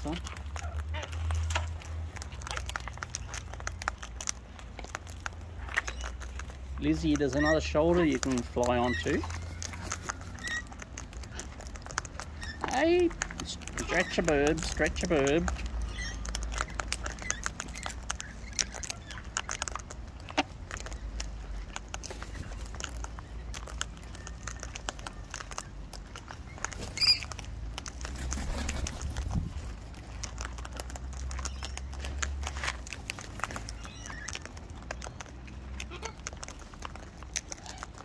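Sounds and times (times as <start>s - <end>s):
beaks cracking seed: 0.0s - 38.0s.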